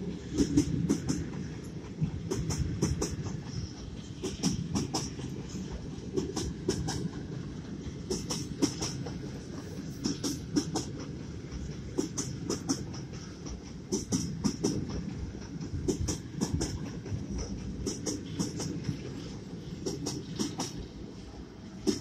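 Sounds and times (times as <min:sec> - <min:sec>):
freight train rumbling past: 0:00.0 - 0:22.0
wheels clacking over rail joints: 0:00.0 - 0:22.0.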